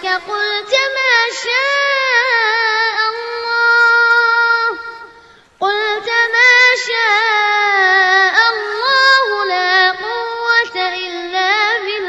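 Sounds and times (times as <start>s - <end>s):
boy chanting melodically: 0.0s - 12.0s.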